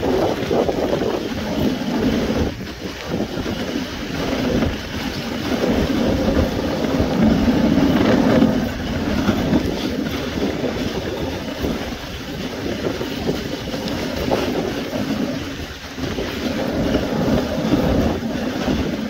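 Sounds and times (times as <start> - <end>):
sled runners scraping on snow: 0.0 - 19.0
wind buffeting microphone: 0.0 - 19.0.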